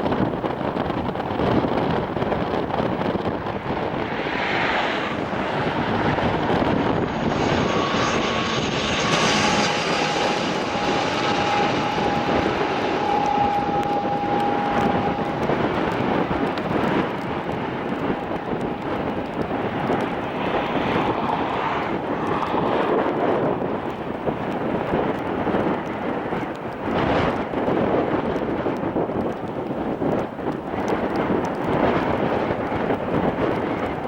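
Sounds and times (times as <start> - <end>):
propeller plane passing: 0.0 - 34.0
wind noise on microphone: 0.0 - 34.0.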